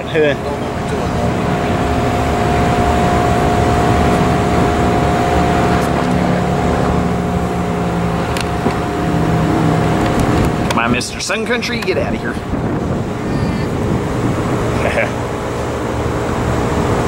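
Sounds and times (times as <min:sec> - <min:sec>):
jet engines rumbling with whine: 0:00.0 - 0:17.0.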